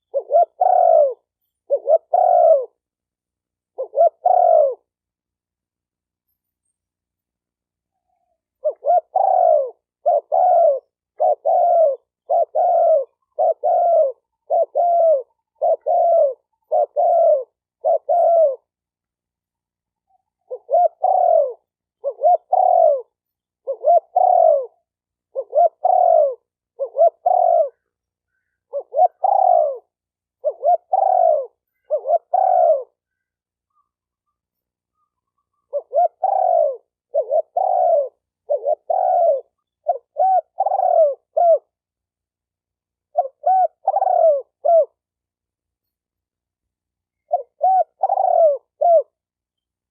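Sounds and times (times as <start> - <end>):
dove cooing: 0.0 - 2.9, 3.7 - 5.0, 8.1 - 18.8, 20.0 - 41.9, 43.0 - 45.1, 47.1 - 49.3.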